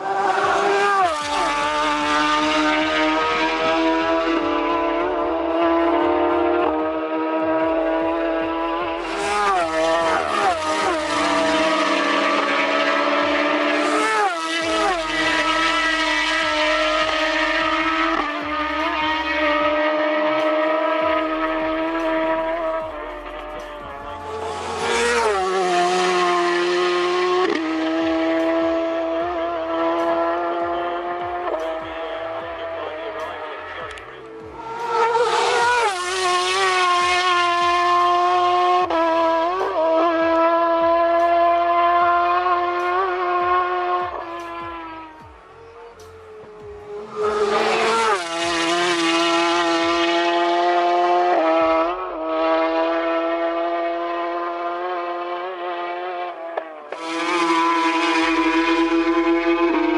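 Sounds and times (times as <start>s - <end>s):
racing motorcycle engine: 0.0s - 59.9s.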